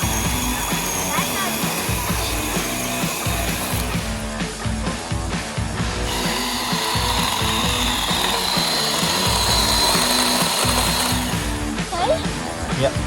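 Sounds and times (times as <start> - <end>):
chainsaw running: 0.0 - 12.8
background music with beat: 0.0 - 13.0.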